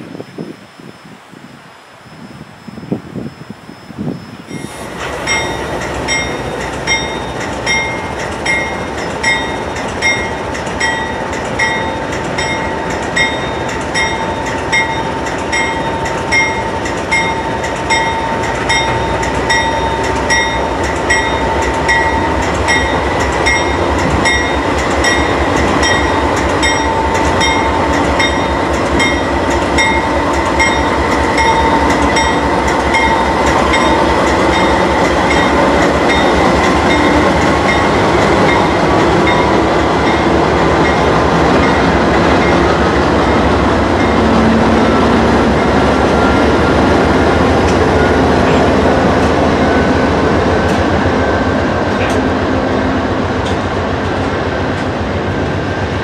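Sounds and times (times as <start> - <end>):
train wheels rumbling on rails: 2.8 - 56.0
diesel locomotive engines running: 3.9 - 56.0.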